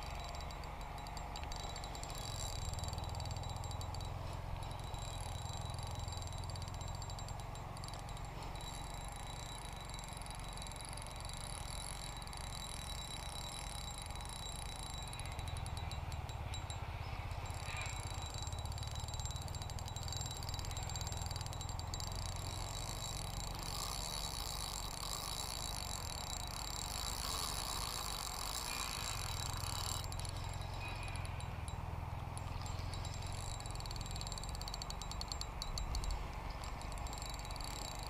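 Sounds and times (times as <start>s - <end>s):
high pulsing chirr: 0.0s - 38.0s.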